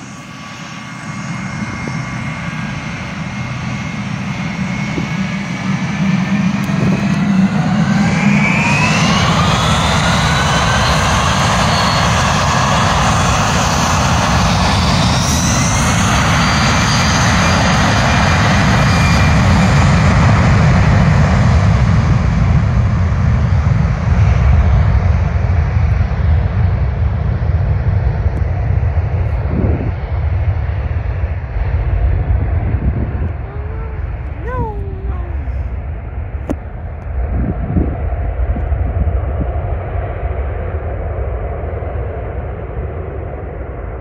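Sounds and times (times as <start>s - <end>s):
deep aircraft rumble: 0.0s - 44.0s
jet engines roaring at takeoff: 0.0s - 44.0s.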